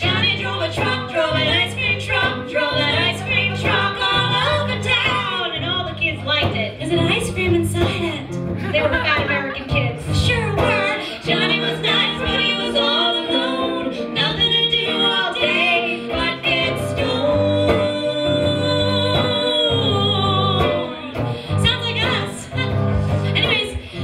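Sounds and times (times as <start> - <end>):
strummed electric guitar: 0.0 - 24.0
women singing: 0.0 - 24.0.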